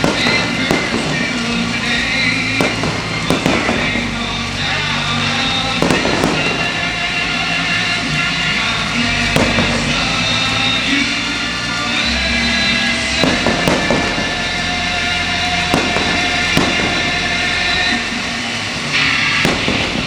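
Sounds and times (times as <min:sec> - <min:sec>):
fireworks bursting bangs: 0:00.0 - 0:20.0
loud music: 0:00.0 - 0:20.0.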